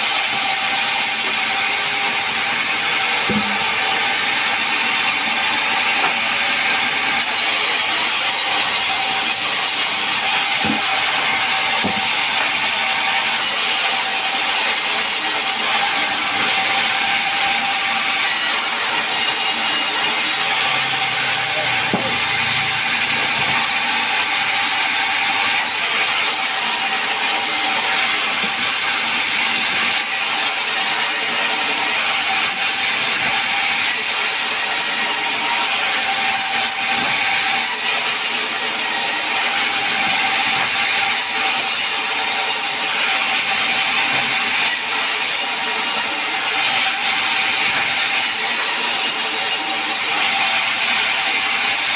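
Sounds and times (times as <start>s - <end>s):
sawmill saw running: 0.0s - 51.9s.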